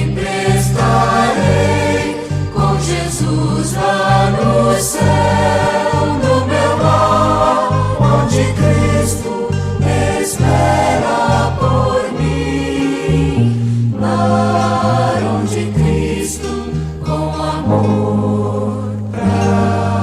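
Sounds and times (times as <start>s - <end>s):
gospel choir singing: 0.0s - 20.0s
instrumental accompaniment: 0.0s - 20.0s.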